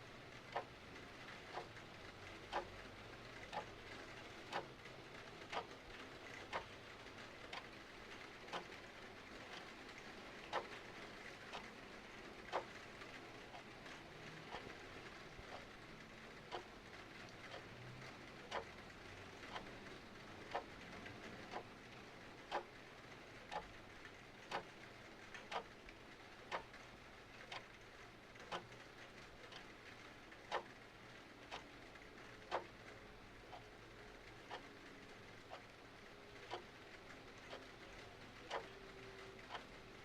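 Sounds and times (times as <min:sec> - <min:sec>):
faint rain hiss: 0:00.0 - 0:40.0
clock ticking: 0:00.2 - 0:40.0.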